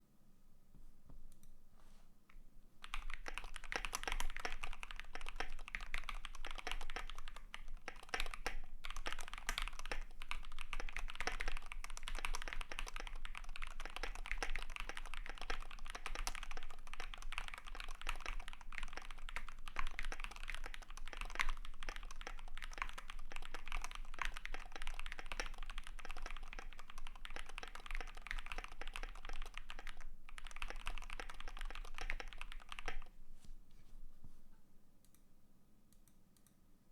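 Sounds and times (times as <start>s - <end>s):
mechanical keyboard typing: 2.8s - 33.1s.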